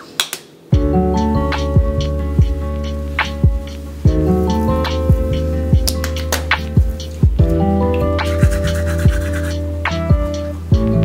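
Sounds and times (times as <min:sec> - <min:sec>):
mellow music with soft beat: 0:00.7 - 0:11.0.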